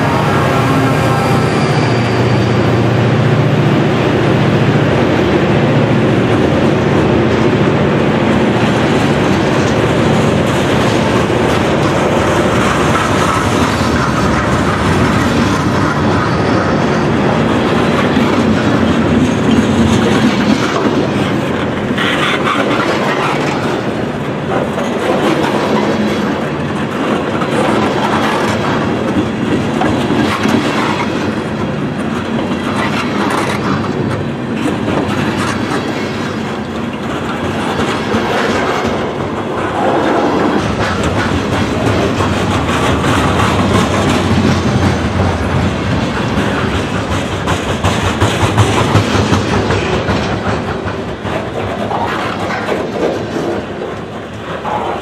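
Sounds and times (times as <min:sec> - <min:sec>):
train cars rolling rumble: 0:00.0 - 0:55.0
wheels clicking over rail joints: 0:06.3 - 0:55.0.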